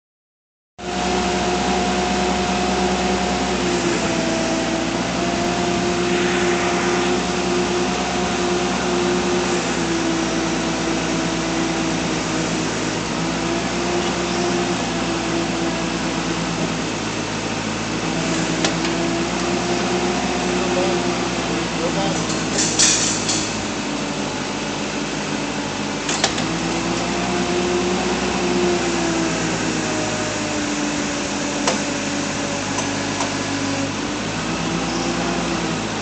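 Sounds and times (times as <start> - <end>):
forklift running: 0.8 - 36.0.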